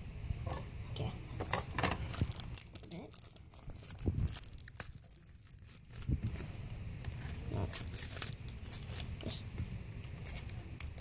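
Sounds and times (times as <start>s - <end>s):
plastic wrapping crinkling and tearing: 2.0s - 11.0s.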